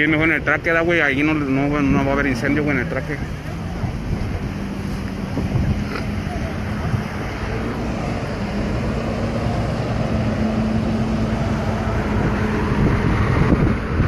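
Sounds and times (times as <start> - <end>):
vehicle engine running: 0.0 - 14.0
wind rumbling on microphone: 1.6 - 14.0.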